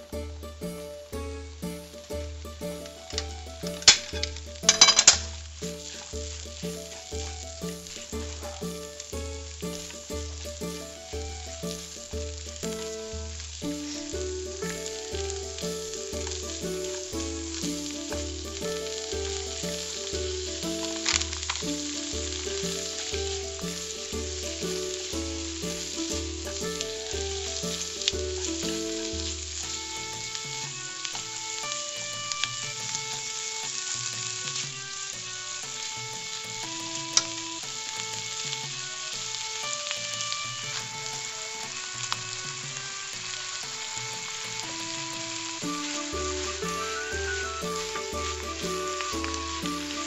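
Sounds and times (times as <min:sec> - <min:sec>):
background music: 0:00.0 - 0:50.0
food sizzling in a frying pan: 0:00.0 - 0:50.0.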